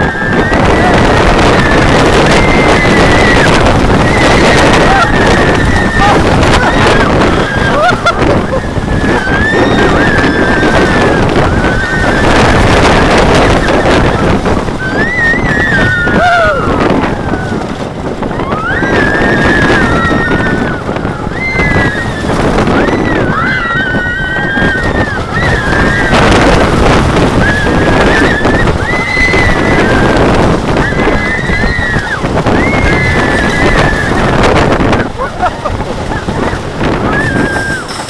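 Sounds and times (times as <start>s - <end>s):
riders screaming: 0.0s - 38.0s
roller coaster running on track: 0.0s - 38.0s
wind on microphone: 0.0s - 38.0s.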